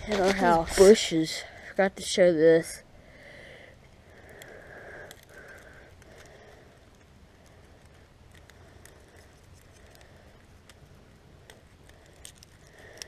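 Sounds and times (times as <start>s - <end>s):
faint outdoor hush: 0.0s - 13.0s.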